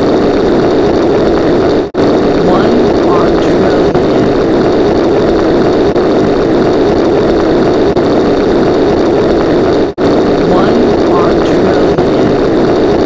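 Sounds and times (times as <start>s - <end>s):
engine-like mechanical drone: 0.0s - 13.0s.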